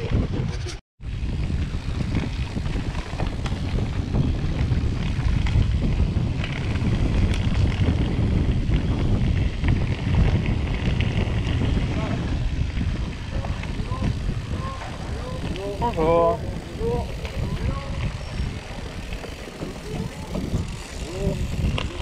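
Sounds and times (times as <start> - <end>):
bike clicks and rattles: 0.0 - 22.0
bike tyres rumbling on dirt: 0.0 - 22.0
wind buffeting microphone: 0.0 - 22.0.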